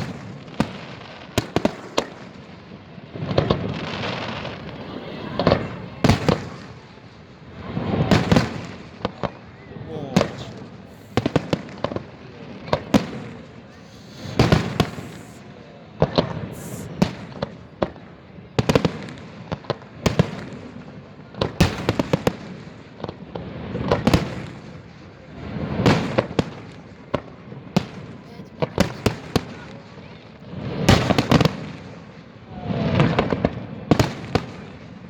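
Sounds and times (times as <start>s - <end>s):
fireworks bangs: 0.0s - 35.0s
fireworks crackling: 0.0s - 35.0s.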